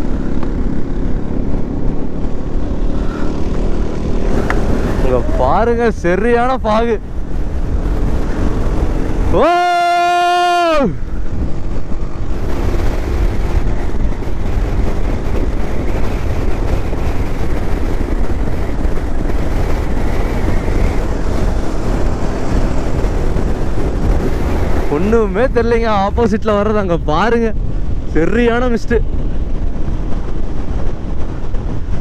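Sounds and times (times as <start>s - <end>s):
motorcycle engine and road rumble: 0.0s - 32.0s
wind buffeting microphone: 0.0s - 32.0s.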